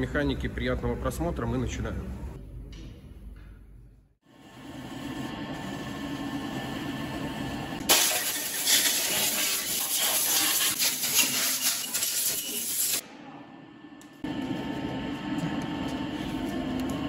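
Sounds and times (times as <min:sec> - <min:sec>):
low workshop hum: 0:00.0 - 0:17.0.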